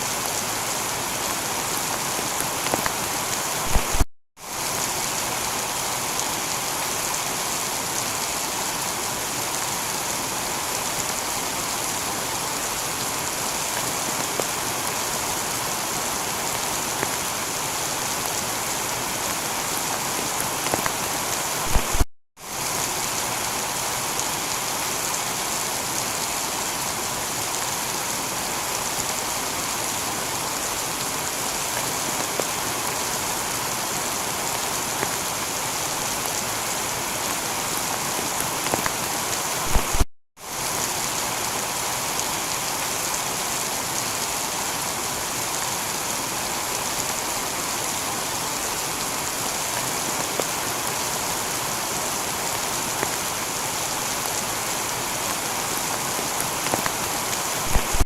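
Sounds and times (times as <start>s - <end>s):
heavy rain on a tiled roof: 0.0s - 58.0s.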